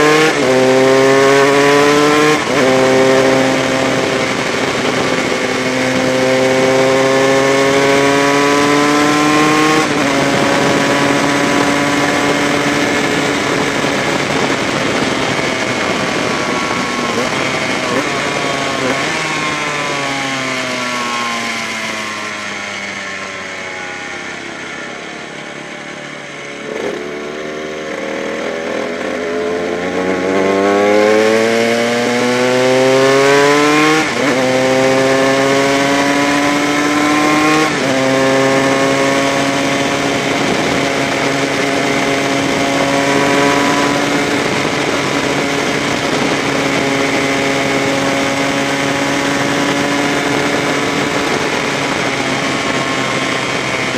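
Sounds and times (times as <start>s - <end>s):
two-stroke engine revving: 0.0s - 22.6s, 26.6s - 53.9s.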